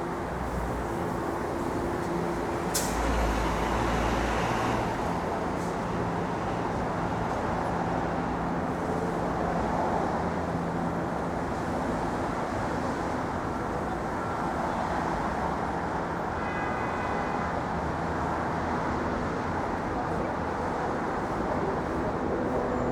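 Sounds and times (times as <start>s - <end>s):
city street traffic: 0.0s - 22.9s.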